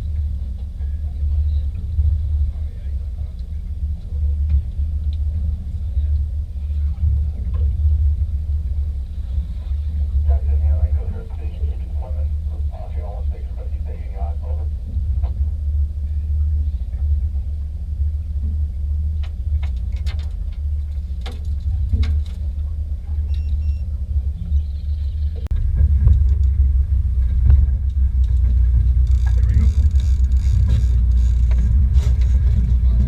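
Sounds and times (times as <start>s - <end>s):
boat engine rumbling: 0.0s - 33.0s.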